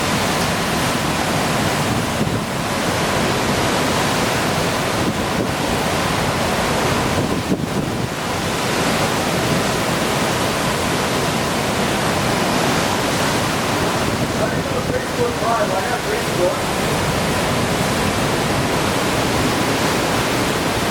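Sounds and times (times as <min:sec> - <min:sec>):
hurricane wind blowing hard: 0:00.0 - 0:20.9.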